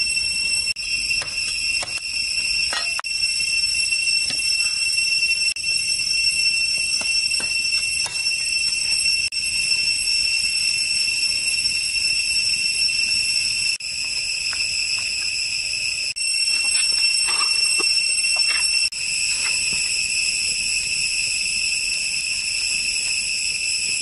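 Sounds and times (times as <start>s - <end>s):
high-pitched insect drone: 0.0s - 24.0s
wood fire crackling: 0.0s - 24.0s.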